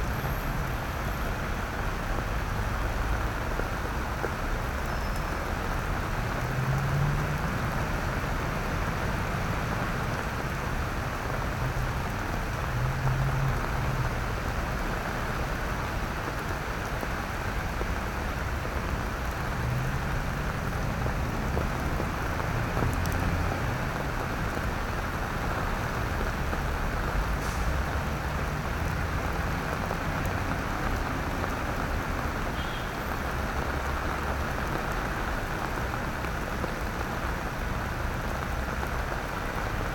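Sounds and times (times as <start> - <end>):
rain on wet paving: 0.0 - 39.9.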